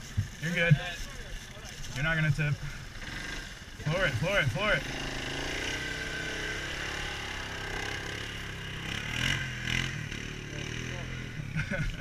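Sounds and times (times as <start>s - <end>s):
atv engine at high revs: 2.1s - 12.0s.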